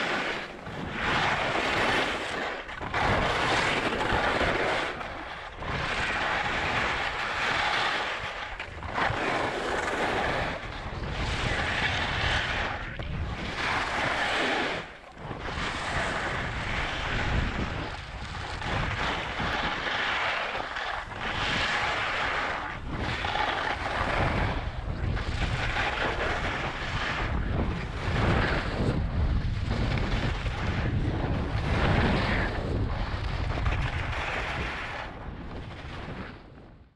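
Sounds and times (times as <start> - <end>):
skis scraping over icy snow: 0.0 - 36.7
wind rumbling on microphone: 0.0 - 36.9.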